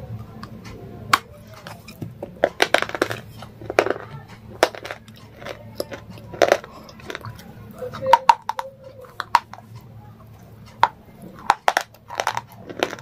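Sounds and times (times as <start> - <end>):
crunching bites and chewing: 1.2 - 13.0.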